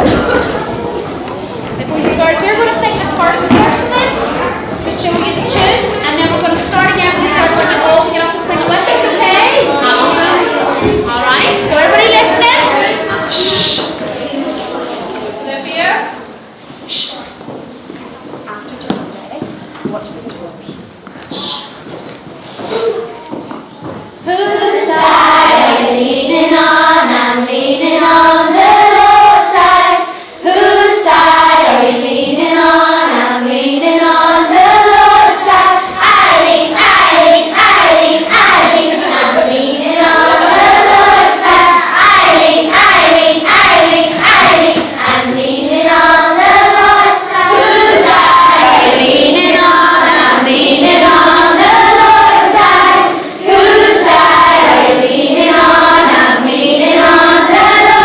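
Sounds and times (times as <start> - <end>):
children singing in unison: 0.0 - 15.3, 24.2 - 58.0.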